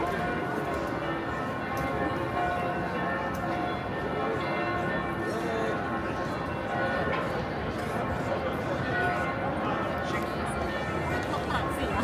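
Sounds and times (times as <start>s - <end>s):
church bells ringing: 0.0s - 7.7s, 8.5s - 11.3s
busy street hubbub: 0.0s - 12.0s.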